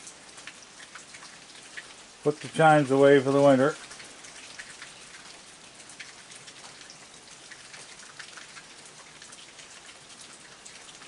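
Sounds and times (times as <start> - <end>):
steady rain with drops tapping: 0.0 - 11.0.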